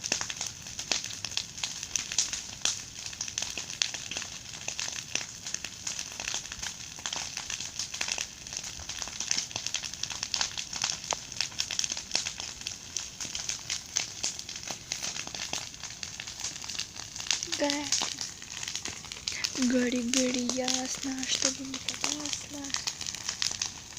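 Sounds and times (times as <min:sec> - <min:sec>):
bonfire crackling: 0:00.0 - 0:23.9.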